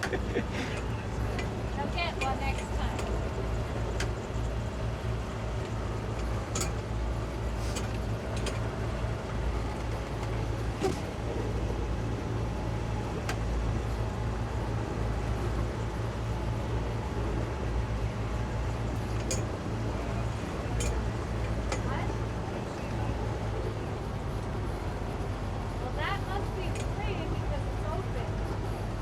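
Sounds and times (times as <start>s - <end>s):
outboard motors running: 0.0s - 29.0s.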